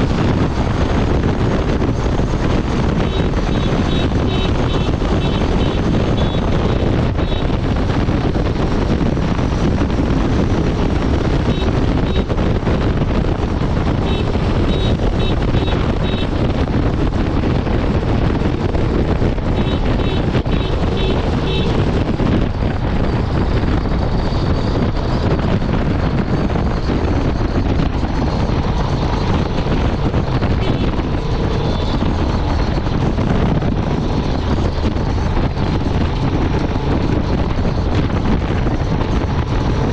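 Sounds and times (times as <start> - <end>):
motorcycle engine at highway speed: 0.0 - 39.9
wind rushing over microphone: 0.0 - 39.9.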